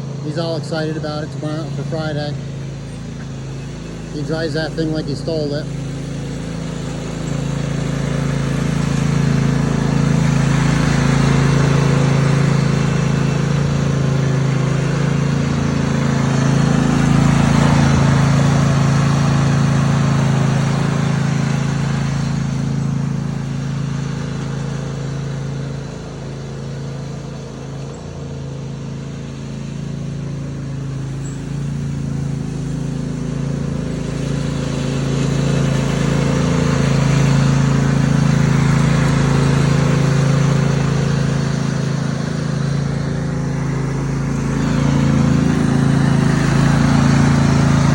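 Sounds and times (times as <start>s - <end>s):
lawn tractor engine running: 0.0s - 47.9s.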